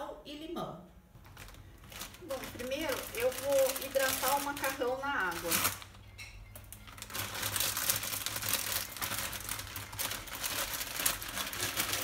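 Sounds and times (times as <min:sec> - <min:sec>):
plastic bag crinkling: 0:01.1 - 0:12.0.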